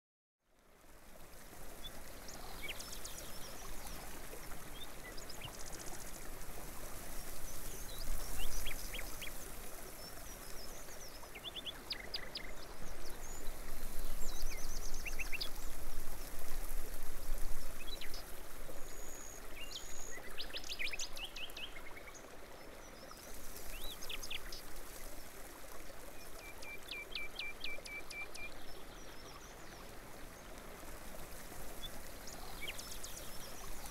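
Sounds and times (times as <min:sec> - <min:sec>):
running water: 0:00.5 - 0:33.9.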